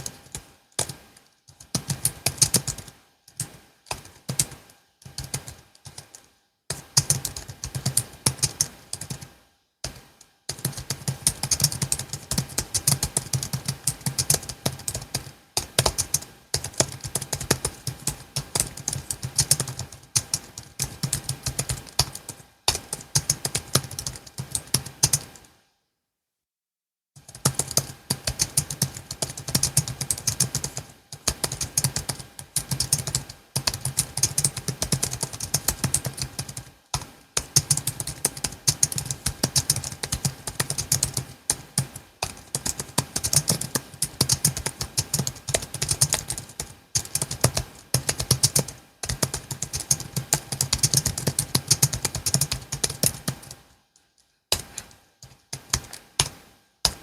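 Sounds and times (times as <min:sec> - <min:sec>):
keyboard typing clicks: 0:00.0 - 0:09.3, 0:09.9 - 0:25.4, 0:27.2 - 0:53.6, 0:54.5 - 0:57.0.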